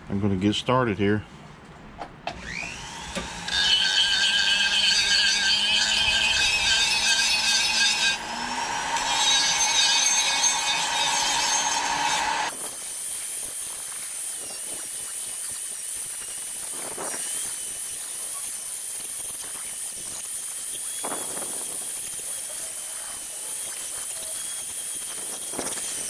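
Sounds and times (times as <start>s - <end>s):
rotary tool sanding wood: 3.1s - 26.0s.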